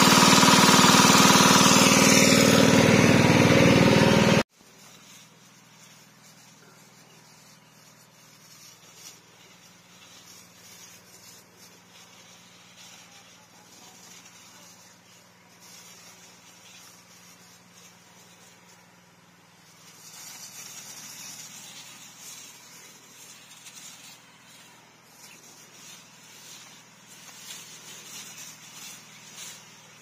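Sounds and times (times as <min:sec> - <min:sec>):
spray gun hissing: 0:00.0 - 0:30.0.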